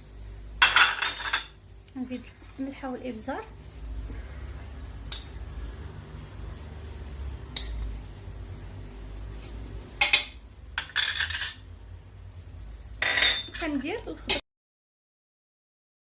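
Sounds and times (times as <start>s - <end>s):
vegetables frying: 0.0s - 14.4s.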